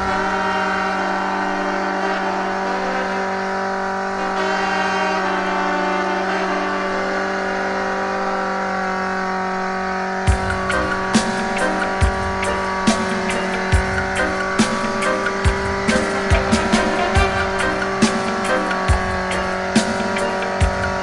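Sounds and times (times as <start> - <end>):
buggy engine under load: 0.0 - 21.0.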